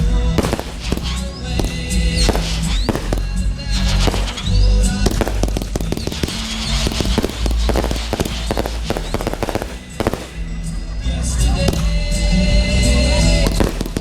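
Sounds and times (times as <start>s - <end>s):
fireworks crackling and bursting: 0.0s - 14.0s.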